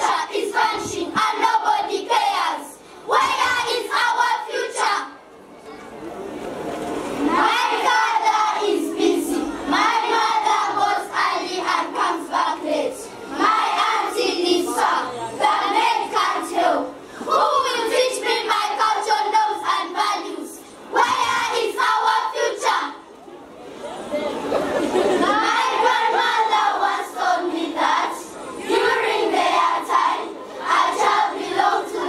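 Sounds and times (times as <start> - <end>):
children chanting a poem: 0.0 - 5.2, 7.2 - 23.0, 25.0 - 32.0.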